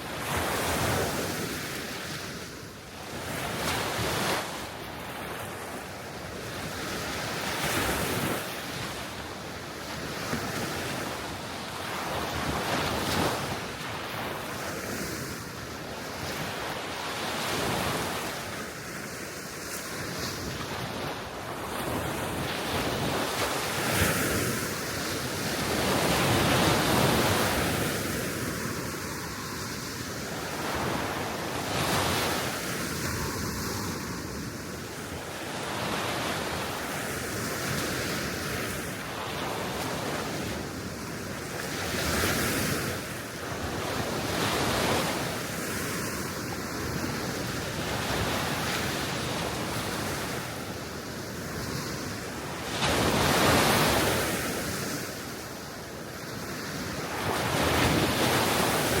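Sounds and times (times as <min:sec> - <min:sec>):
wind on microphone: 0:00.0 - 0:55.3
sea waves washing onto shore: 0:00.0 - 0:59.0.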